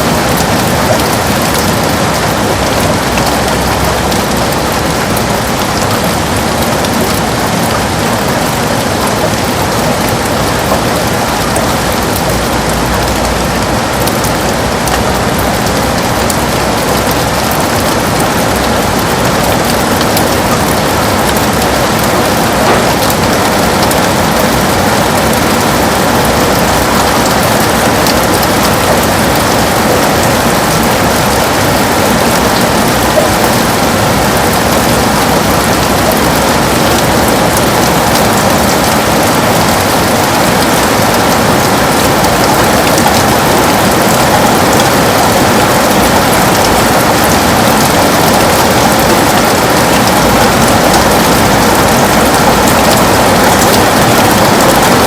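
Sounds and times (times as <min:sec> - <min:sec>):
heavy rain on a window: 0:00.0 - 0:55.0.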